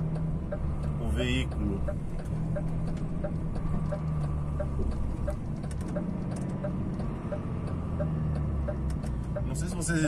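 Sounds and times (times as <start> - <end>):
truck diesel engine drone: 0.0 - 10.0
faint light ticks: 0.1 - 9.8.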